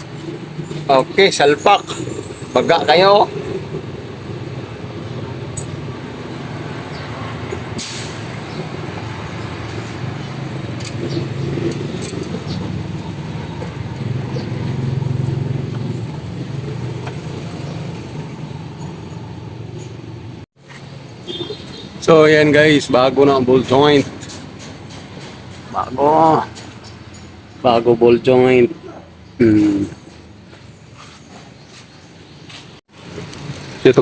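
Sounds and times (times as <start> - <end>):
motor vehicle rumbling: 0.0 - 34.0.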